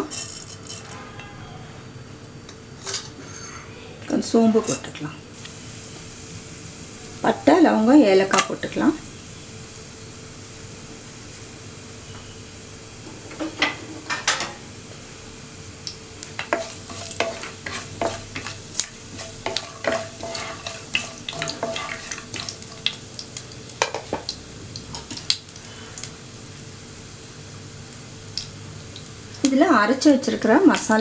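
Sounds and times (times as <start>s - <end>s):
spices sizzling in oil: 4.1s - 31.0s.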